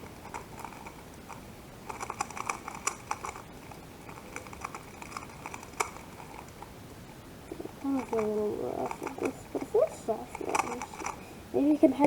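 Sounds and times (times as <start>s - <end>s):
plastic puzzle cube clicking: 0.2s - 6.7s, 8.0s - 11.2s.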